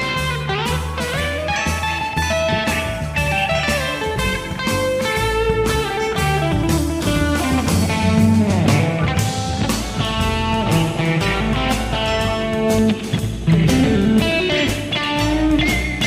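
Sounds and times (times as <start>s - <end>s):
electric guitar blues run: 0.0s - 16.0s.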